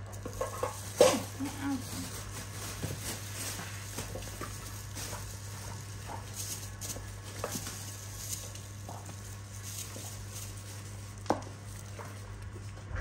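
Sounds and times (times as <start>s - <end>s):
steady low hum: 0.0s - 13.0s
rustling and patter on blanket: 0.1s - 13.0s.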